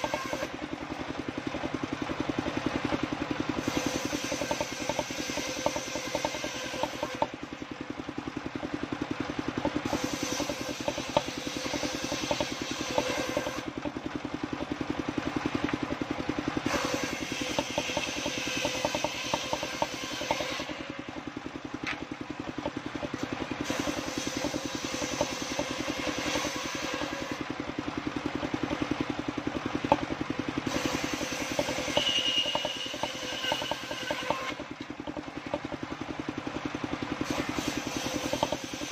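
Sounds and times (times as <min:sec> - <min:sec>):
saw blade cutting wood: 0:00.0 - 0:00.8, 0:01.4 - 0:07.6, 0:09.4 - 0:15.0, 0:15.6 - 0:27.5, 0:29.8 - 0:35.8, 0:37.2 - 0:38.9
saw engine running: 0:00.0 - 0:38.9.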